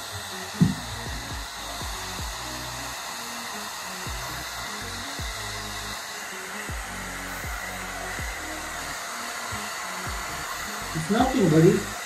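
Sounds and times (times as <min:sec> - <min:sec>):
background music with beat: 0:00.0 - 0:12.0
blow dryer blowing air: 0:00.0 - 0:12.0.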